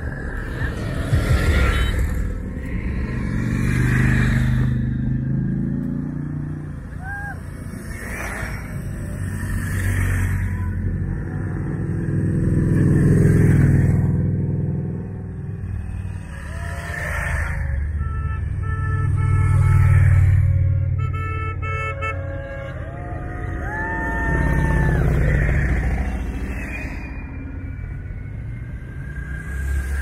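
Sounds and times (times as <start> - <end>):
motorcycles passing: 0.0 - 30.0.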